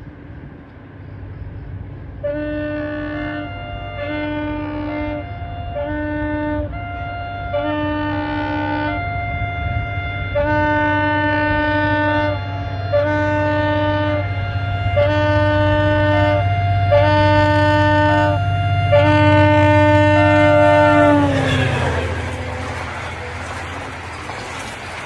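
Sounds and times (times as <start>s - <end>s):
diesel engine running: 0.0s - 25.0s
locomotive horn blasts: 2.2s - 25.0s.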